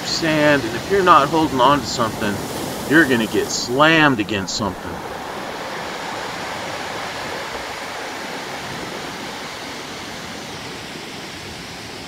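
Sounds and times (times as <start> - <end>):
surf washing up pebble beach: 0.0 - 12.0.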